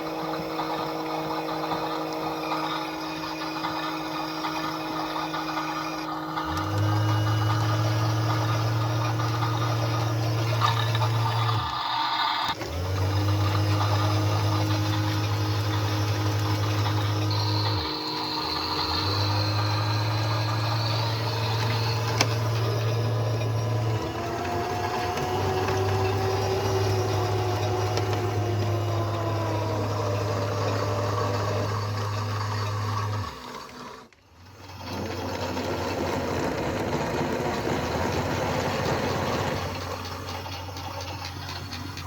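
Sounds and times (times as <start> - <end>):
washing machine motor humming: 0.0 - 42.0.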